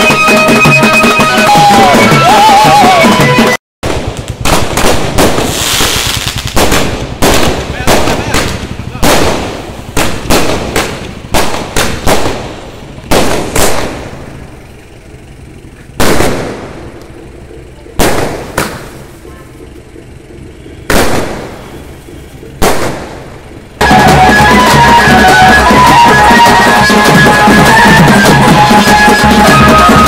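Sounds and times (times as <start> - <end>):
fireworks bursting with sharp bangs: 0.0 - 14.7, 15.5 - 19.3, 20.2 - 30.0.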